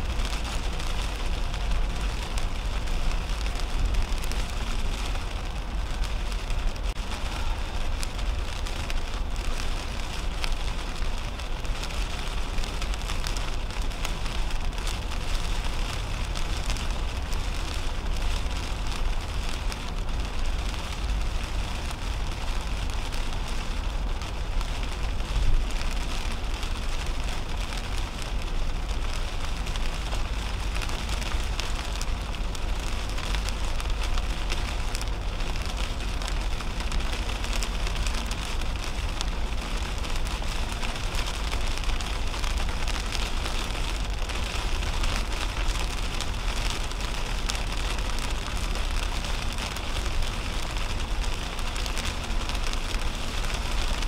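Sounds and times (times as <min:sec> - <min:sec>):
heavy rain on windshield and roof: 0:00.0 - 0:54.0
tyres rumbling on wet road: 0:00.0 - 0:54.0.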